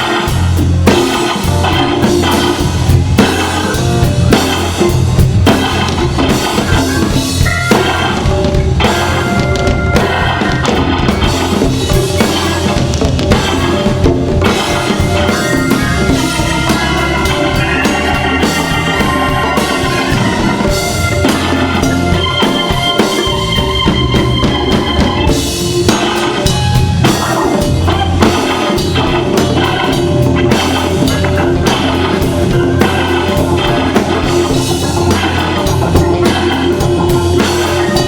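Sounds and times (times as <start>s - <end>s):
drum kit groove: 0.0s - 38.0s
organ playing: 0.0s - 38.0s.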